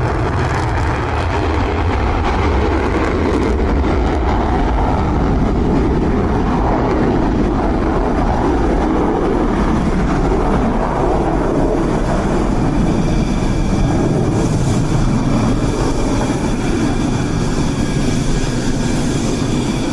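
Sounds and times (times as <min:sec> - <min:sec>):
fighter jet engines roaring: 0:00.0 - 0:19.9
high whine: 0:00.0 - 0:19.9.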